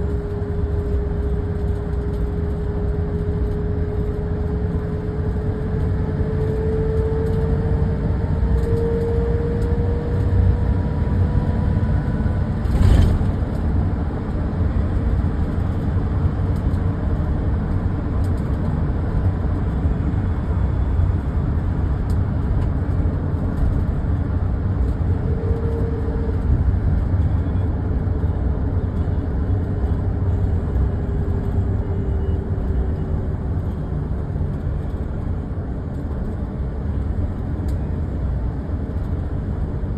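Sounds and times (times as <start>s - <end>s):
tyres and engine rumbling: 0.0s - 39.9s.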